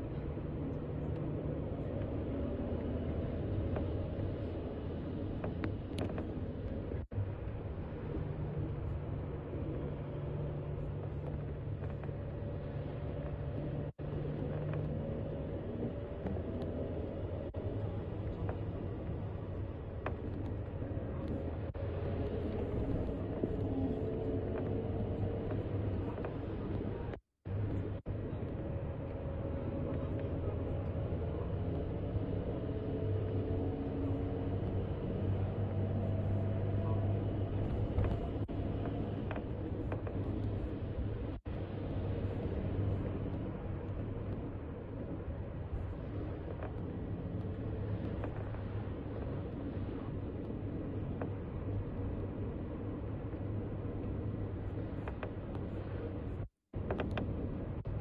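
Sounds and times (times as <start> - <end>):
vehicle engine hum: 0.0 - 58.0.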